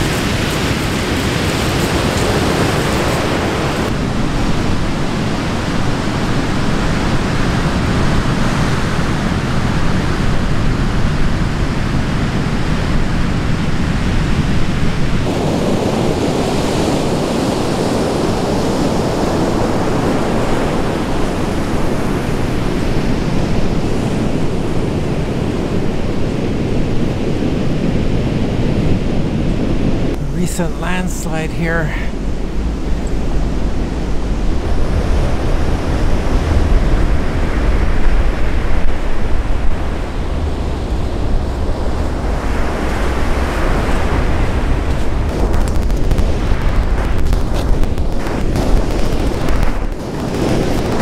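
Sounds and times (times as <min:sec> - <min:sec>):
ocean surf breaking: 0:00.0 - 0:51.0
wind on microphone: 0:00.0 - 0:51.0.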